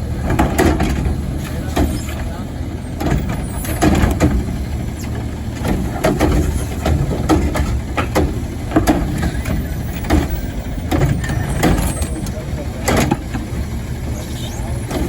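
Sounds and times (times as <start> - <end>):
diesel engine idling: 0.0 - 15.0
knocks and clatter: 0.2 - 2.3, 2.9 - 13.7.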